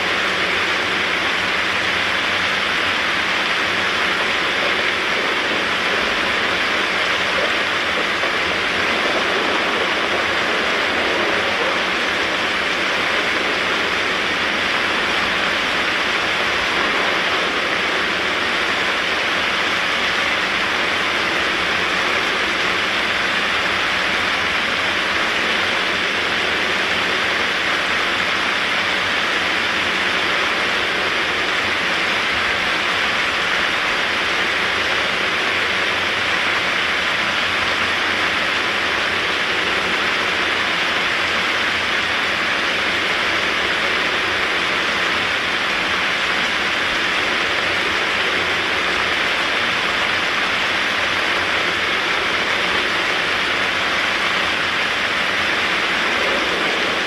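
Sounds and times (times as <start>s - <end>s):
heavy rain on street and cars: 0.0s - 57.0s.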